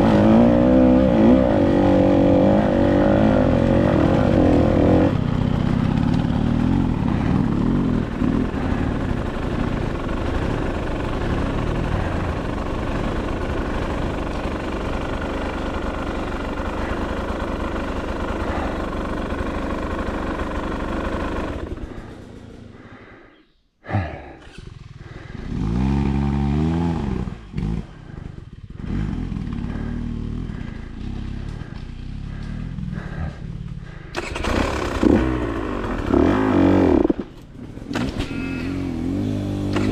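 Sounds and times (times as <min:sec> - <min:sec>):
dirt bike engine revving: 0:00.0 - 0:23.2, 0:23.9 - 0:39.9
dirt bike engine running: 0:00.0 - 0:39.9.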